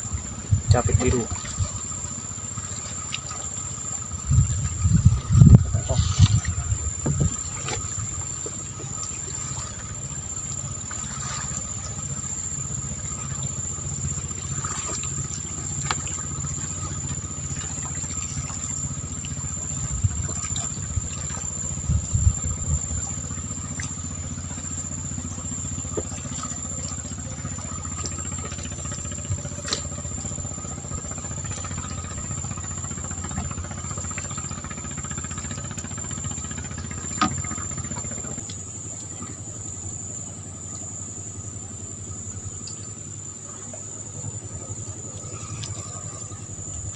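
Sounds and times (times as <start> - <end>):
high insect trill: 0.0 - 46.9
low pulsing engine drone: 0.0 - 46.9.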